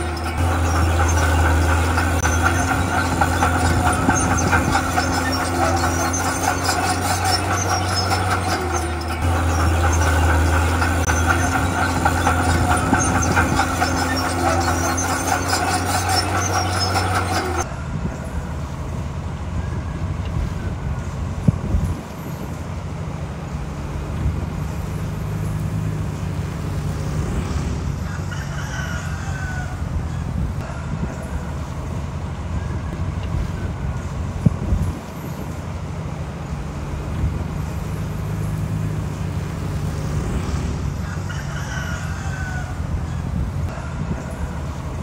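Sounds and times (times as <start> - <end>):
high squealing and clanking: 0.0 - 19.0, 24.4 - 35.8, 36.4 - 45.0
heavy diesel machinery engine: 0.0 - 45.0.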